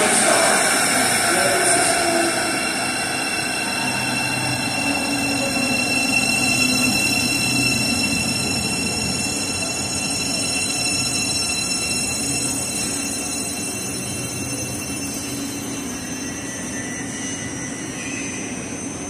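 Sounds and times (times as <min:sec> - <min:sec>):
high-pitched train tones: 0:00.0 - 0:19.0
train rumble: 0:00.0 - 0:19.0.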